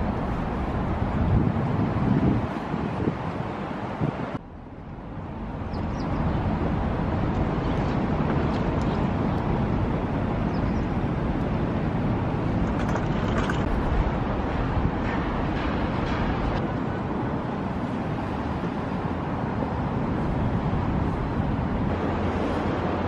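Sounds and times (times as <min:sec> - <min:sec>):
low city rumble: 0:00.0 - 0:23.0.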